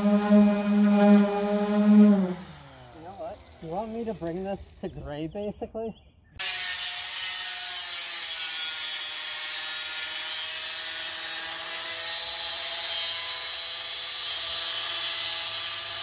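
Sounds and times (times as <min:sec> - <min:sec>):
power grinder on sheet metal: 0:00.0 - 0:04.1, 0:06.4 - 0:16.0.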